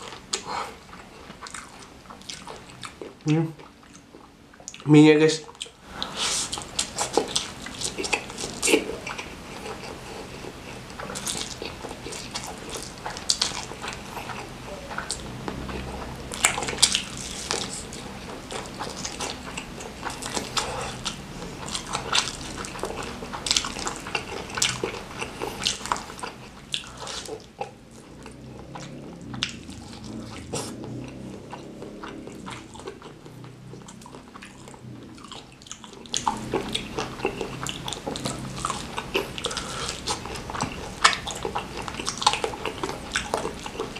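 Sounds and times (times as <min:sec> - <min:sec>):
person chewing and biting: 0:00.0 - 0:04.9, 0:05.5 - 0:43.9
crunchy chewing clicks: 0:00.0 - 0:05.8, 0:06.5 - 0:43.9.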